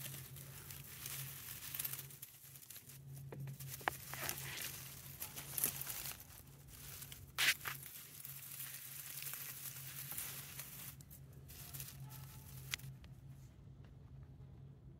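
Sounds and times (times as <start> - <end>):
dry grass and twigs rustling: 0.0 - 13.5.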